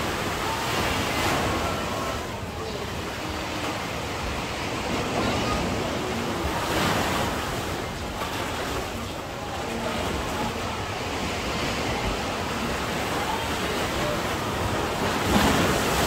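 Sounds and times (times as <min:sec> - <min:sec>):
sea surf washing onto beach: 0:00.0 - 0:16.0.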